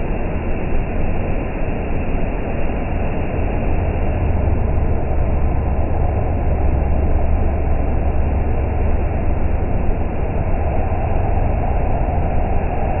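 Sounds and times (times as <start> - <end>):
low machine drone: 0.0 - 13.0.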